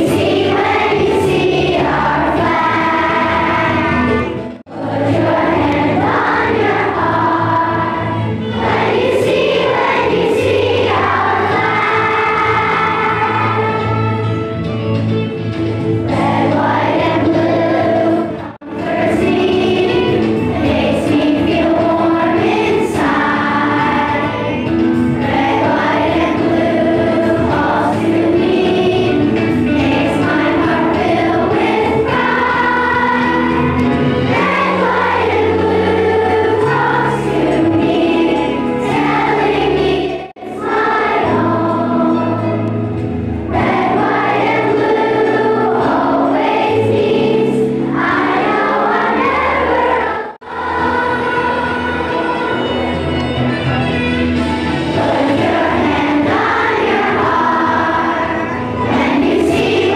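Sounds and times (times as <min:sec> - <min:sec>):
children singing: 0:00.0 - 0:14.6, 0:16.0 - 0:42.8, 0:43.4 - 0:59.9
instrumental accompaniment: 0:00.0 - 0:59.9.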